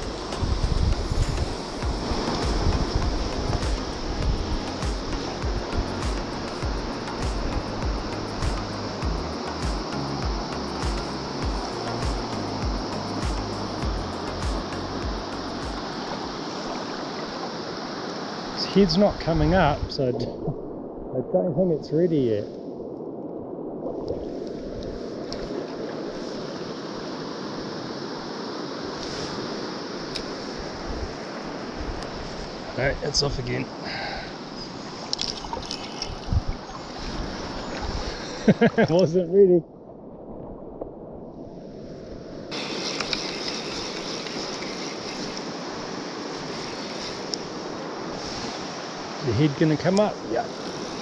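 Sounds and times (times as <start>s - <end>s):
river flowing over stones: 0.0s - 19.7s, 23.7s - 38.7s, 41.7s - 51.0s.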